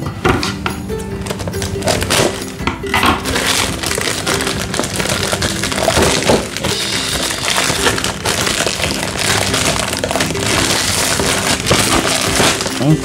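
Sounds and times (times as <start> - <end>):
background music: 0.0 - 13.0
plastic film crinkling and tearing: 1.2 - 2.6, 3.2 - 13.0.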